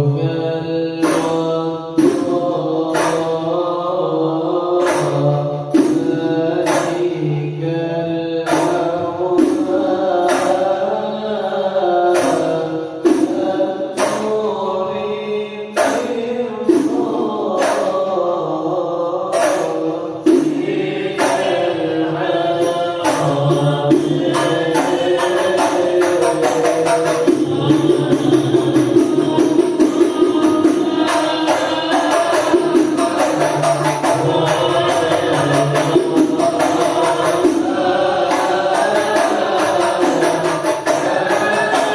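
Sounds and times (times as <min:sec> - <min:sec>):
devotional singing: 0:00.0 - 0:41.9
frame drums: 0:01.0 - 0:03.6, 0:04.8 - 0:07.7, 0:08.4 - 0:11.1, 0:12.0 - 0:15.0, 0:15.8 - 0:18.2, 0:19.3 - 0:41.9.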